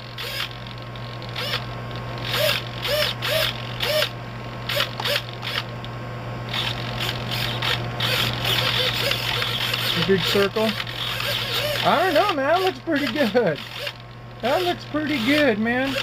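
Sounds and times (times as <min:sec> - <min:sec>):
servo gear whirs: 0:00.0 - 0:05.7, 0:06.5 - 0:16.0.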